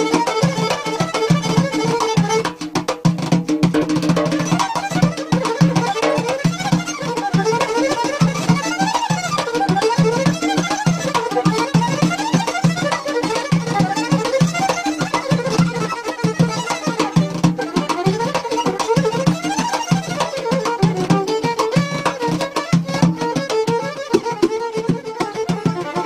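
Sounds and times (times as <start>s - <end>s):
violin melody: 0.0s - 2.9s, 4.2s - 26.0s
hand drum beating: 0.0s - 26.0s
plucked lute: 0.0s - 26.0s.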